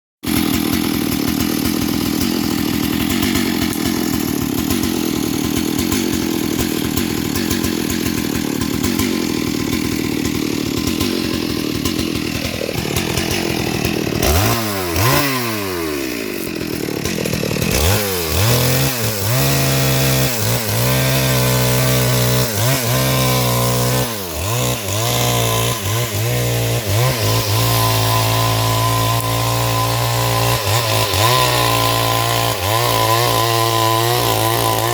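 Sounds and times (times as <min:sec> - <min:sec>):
chainsaw cutting tree: 0:00.2 - 0:34.9.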